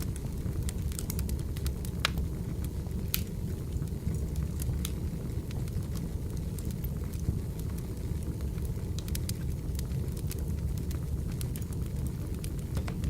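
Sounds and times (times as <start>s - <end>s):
fire low rumble: 0.0s - 13.0s
wood fire crackling and popping: 0.0s - 13.0s.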